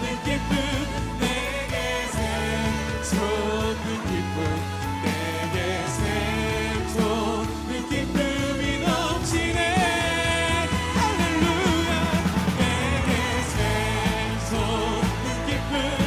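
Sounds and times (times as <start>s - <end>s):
band playing steady beat and bass: 0.0s - 16.0s
person singing worship song: 0.0s - 16.0s.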